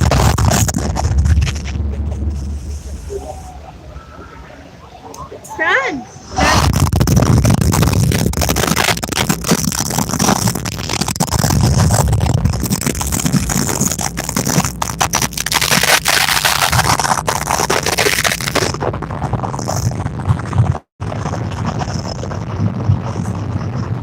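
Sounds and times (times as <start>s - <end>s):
low rumble with crackling: 0.0s - 24.0s.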